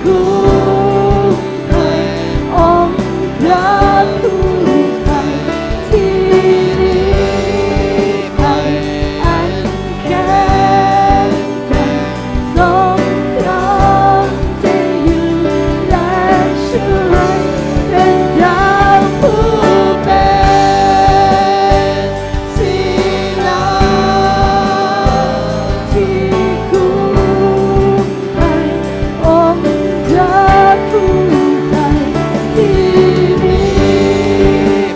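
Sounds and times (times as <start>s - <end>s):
acoustic guitar: 0.0s - 34.9s
bass guitar: 0.0s - 34.9s
group singing worship song: 0.0s - 34.9s.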